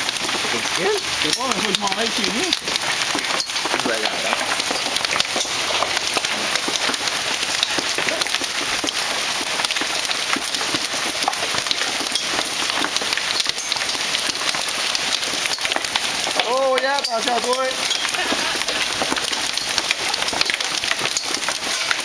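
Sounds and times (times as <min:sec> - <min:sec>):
hailstones pelting down: 0:00.0 - 0:22.0.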